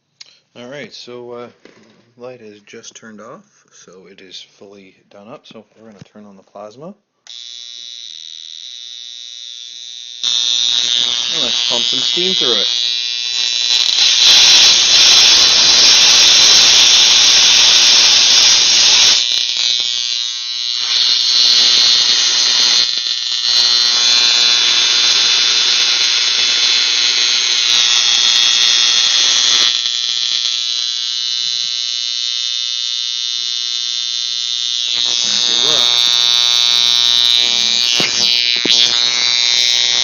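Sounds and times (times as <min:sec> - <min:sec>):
high-pitched plasma spark buzzing: 0:07.3 - 0:40.0.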